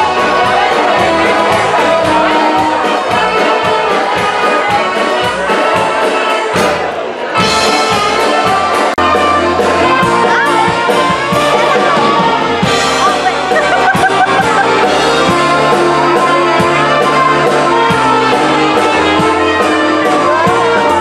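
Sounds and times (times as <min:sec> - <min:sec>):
polka band playing: 0:00.0 - 0:21.0.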